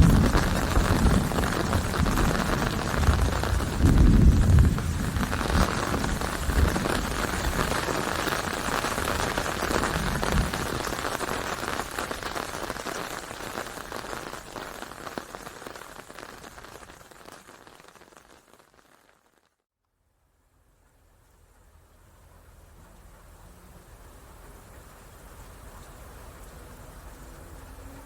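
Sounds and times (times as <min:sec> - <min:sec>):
rain pattering: 0:00.0 - 0:19.6, 0:20.5 - 0:28.0.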